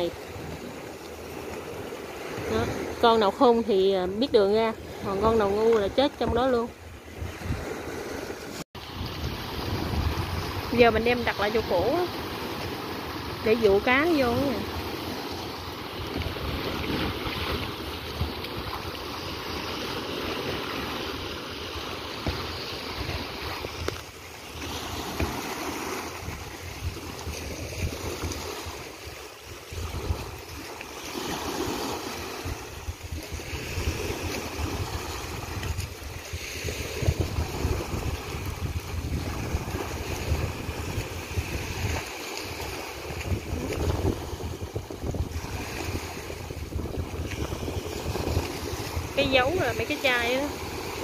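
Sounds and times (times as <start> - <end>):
small waves breaking at shore: 0.0 - 51.0
wind buffeting microphone: 0.0 - 51.0.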